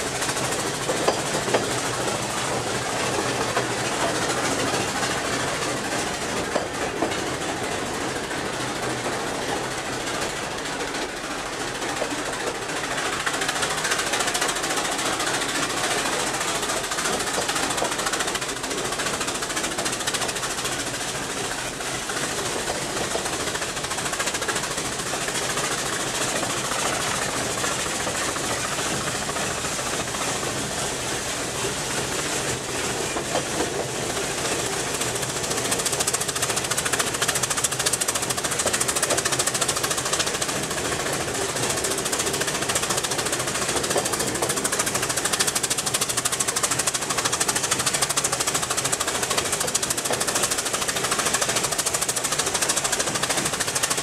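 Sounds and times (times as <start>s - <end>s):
steam locomotive exhaust beating: 0.0s - 54.0s.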